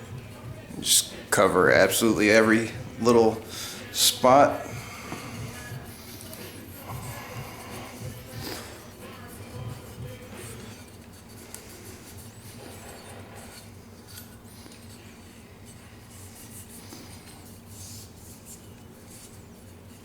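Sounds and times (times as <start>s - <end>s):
cloth rubbing on gun barrel: 0.4s - 20.0s.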